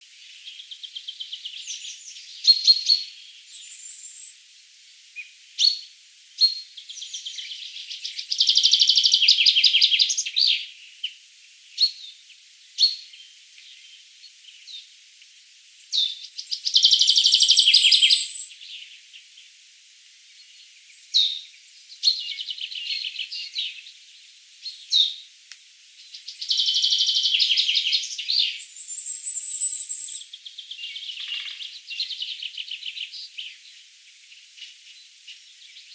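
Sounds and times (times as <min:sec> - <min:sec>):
songbird chirps: 0:00.0 - 0:35.9.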